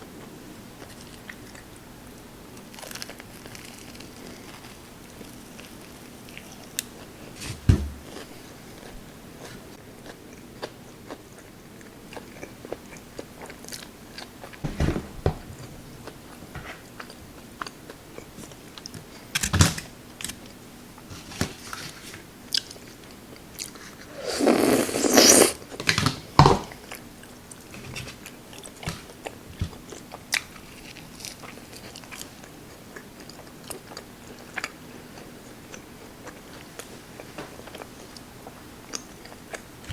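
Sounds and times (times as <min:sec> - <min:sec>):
chewing and crunching: 0:00.8 - 0:14.6, 0:20.2 - 0:39.9.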